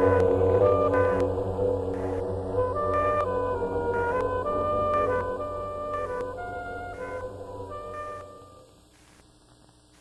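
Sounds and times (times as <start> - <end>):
instrumental soundtrack music: 0.0 - 8.8.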